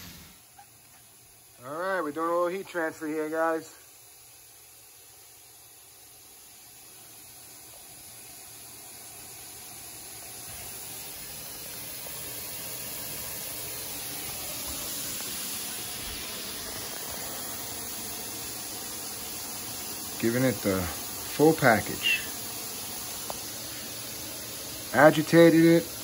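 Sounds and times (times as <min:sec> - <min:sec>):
steam iron hissing: 0:00.0 - 0:26.0.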